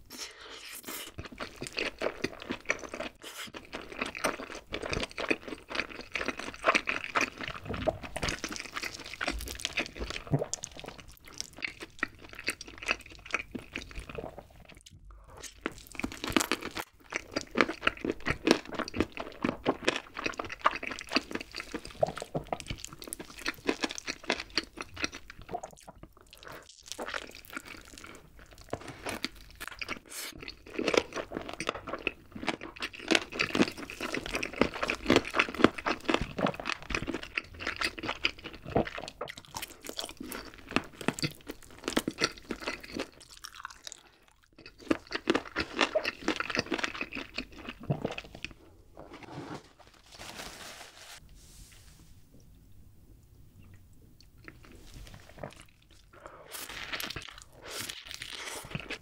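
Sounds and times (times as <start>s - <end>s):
biting and chewing crunches: 0.8s - 48.6s.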